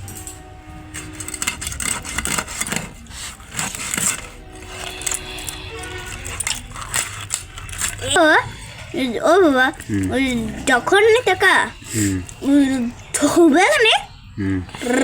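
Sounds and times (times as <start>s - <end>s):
blade cutting fish: 1.1s - 13.9s.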